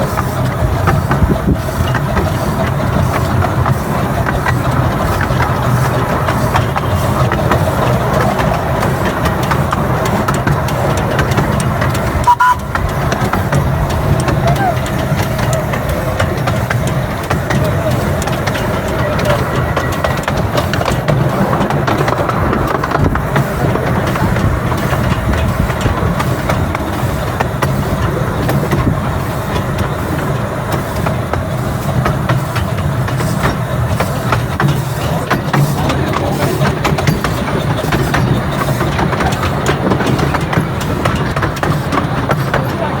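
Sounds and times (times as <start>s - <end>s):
miniature train rumble: 0.0s - 43.0s
wheels clicking on track: 0.0s - 43.0s.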